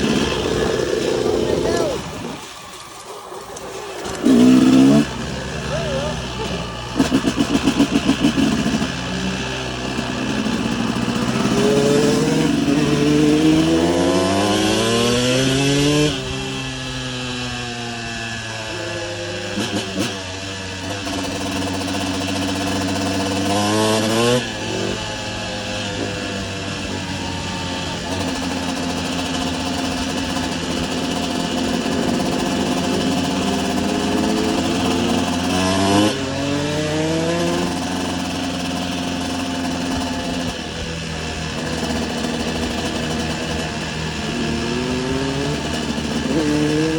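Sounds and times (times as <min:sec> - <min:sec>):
motorbike engine accelerating: 0:00.0 - 0:46.9.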